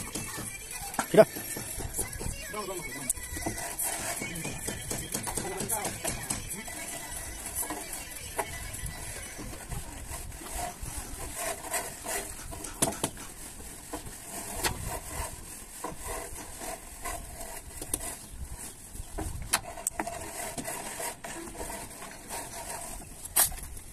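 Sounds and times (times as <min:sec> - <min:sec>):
tools knocking and scraping plaster: 0:00.0 - 0:23.9.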